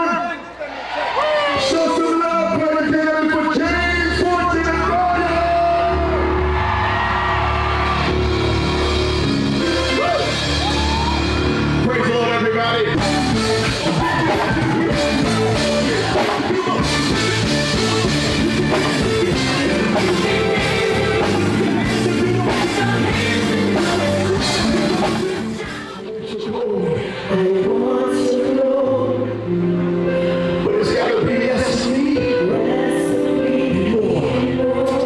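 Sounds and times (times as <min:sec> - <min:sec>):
gospel band playing with singing: 0:00.0 - 0:35.0.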